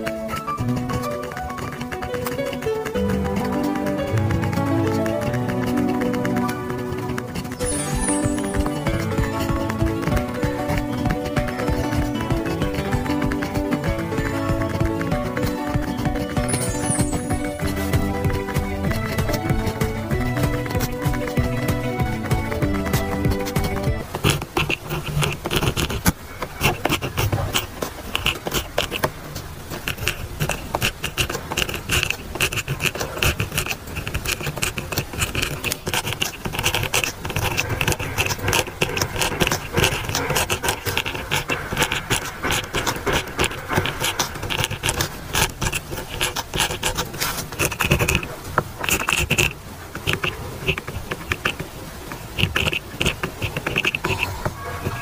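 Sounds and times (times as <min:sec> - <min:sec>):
pen scratching on paper: 0:00.0 - 0:55.0.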